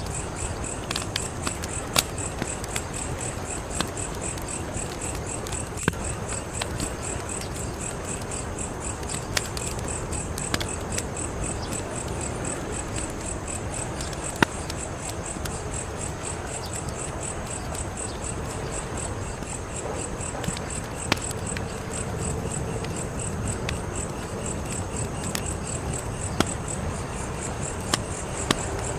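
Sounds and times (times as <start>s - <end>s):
cricket chirping: 0.0s - 28.9s
wood fire crackling: 0.0s - 28.9s.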